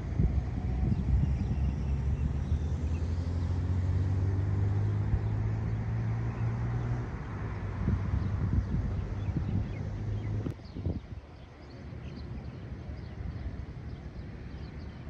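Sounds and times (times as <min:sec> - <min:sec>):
low engine hum: 0:00.0 - 0:15.0
low rumbling wind noise: 0:00.0 - 0:15.0.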